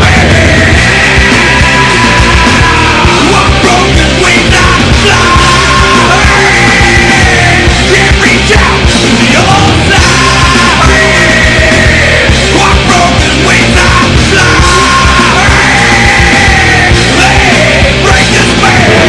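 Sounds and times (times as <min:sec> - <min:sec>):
rock music: 0:00.0 - 0:19.0
strained singing: 0:00.0 - 0:19.0.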